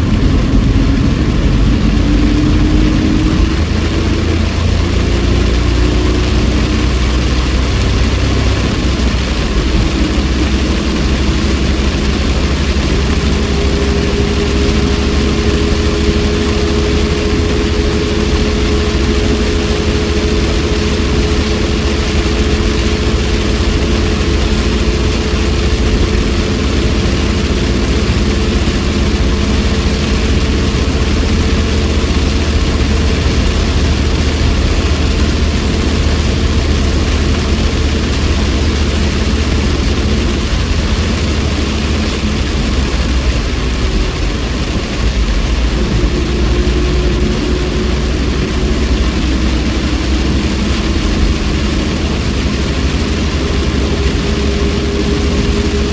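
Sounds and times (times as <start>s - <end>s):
car engine rumbling: 0.0s - 55.9s
rain and wet road hiss: 0.0s - 55.9s.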